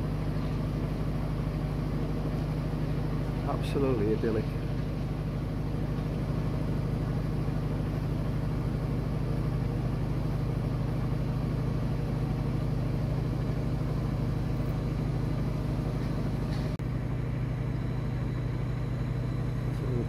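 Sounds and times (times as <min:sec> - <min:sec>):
diesel boat engine running: 0:00.0 - 0:20.0.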